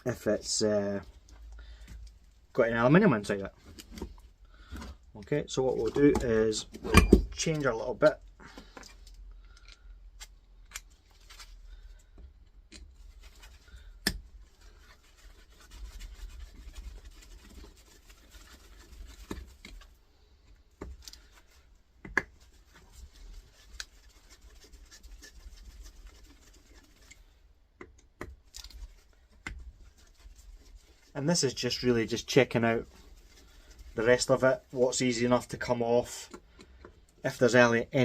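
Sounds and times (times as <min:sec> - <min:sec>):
soft scraping and rubbing: 0:00.1 - 0:09.2, 0:10.9 - 0:27.6, 0:28.4 - 0:38.0.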